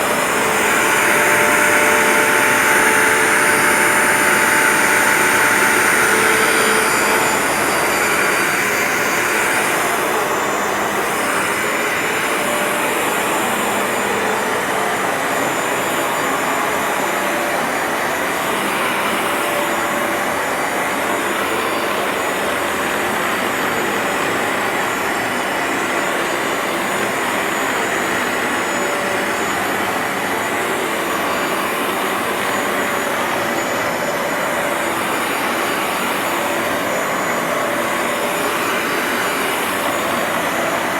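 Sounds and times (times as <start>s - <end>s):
carpet cleaner suction motor: 0.0s - 40.9s.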